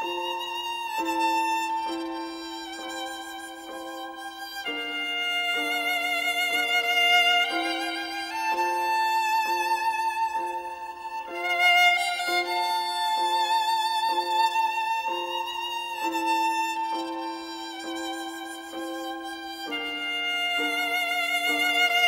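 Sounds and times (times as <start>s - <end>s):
soft accompaniment: 0.0s - 22.0s
solo violin melody: 0.0s - 22.0s.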